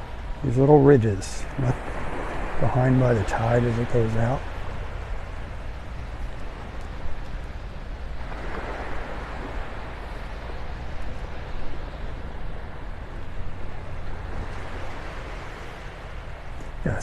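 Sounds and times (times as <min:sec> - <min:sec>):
small waves washing onto beach: 0:00.0 - 0:17.0
wind rumbling on microphone: 0:00.0 - 0:17.0.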